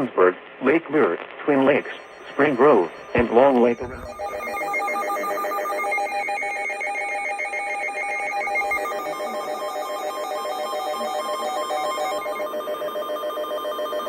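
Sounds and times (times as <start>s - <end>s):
warbling electronic alert tone: 1.8s - 14.0s.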